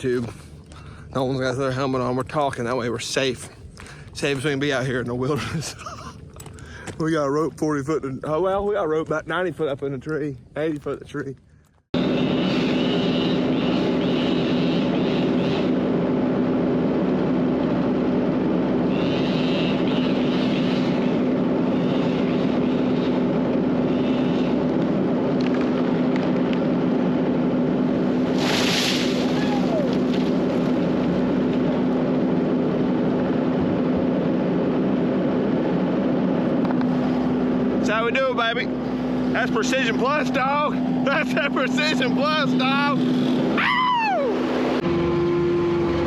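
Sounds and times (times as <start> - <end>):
engine running steadily: 0.0 - 9.2, 10.1 - 46.0.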